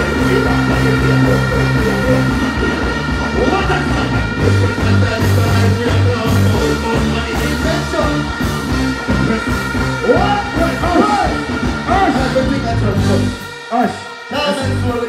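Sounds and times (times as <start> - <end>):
dancehall music with heavy bass: 0.0 - 15.0
person singing: 0.0 - 15.0.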